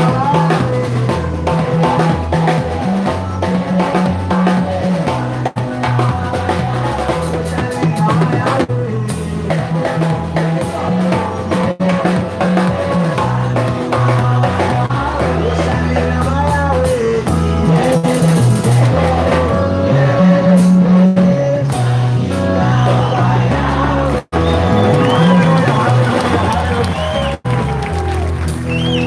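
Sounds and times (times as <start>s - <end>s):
drum kit beat: 0.0s - 29.0s
live band playing praise music: 0.0s - 29.0s.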